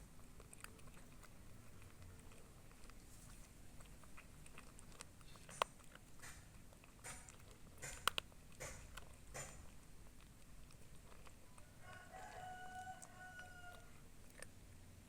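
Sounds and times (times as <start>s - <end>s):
cat chewing food: 0.0s - 15.0s.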